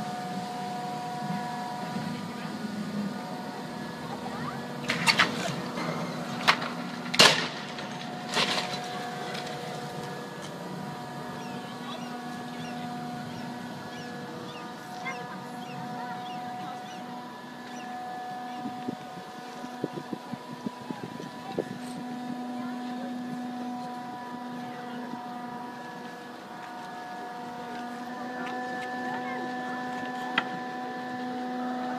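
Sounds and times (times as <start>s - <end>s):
boat engine humming: 0.0s - 31.9s.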